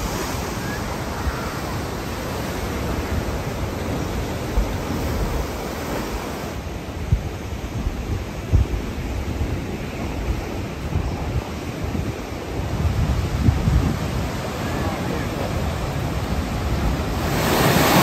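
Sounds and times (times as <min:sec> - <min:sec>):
surf breaking on rocky shore: 0:00.0 - 0:18.0
wind buffeting microphone: 0:00.0 - 0:18.0.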